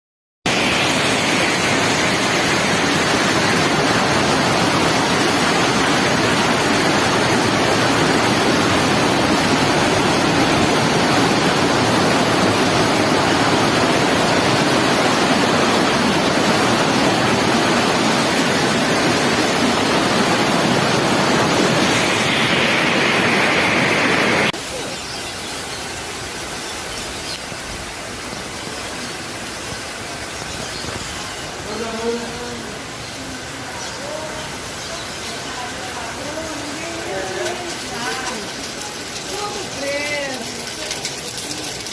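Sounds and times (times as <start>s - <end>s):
rushing water: 0.5s - 41.9s
torrential rain: 0.5s - 41.9s.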